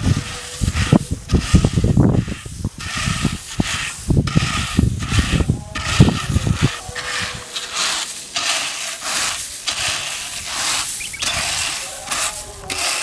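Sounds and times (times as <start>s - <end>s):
rake through dried maize kernels: 0.0s - 13.0s.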